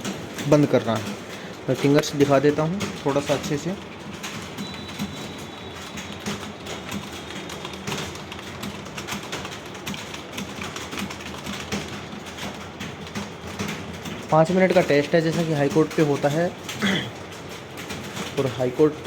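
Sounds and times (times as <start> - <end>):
fast typing on keyboards: 0.0 - 19.0.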